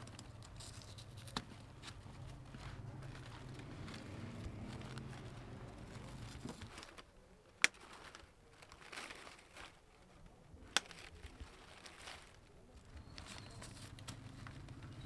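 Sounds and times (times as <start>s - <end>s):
plastic flowers rustling: 0.0s - 15.0s.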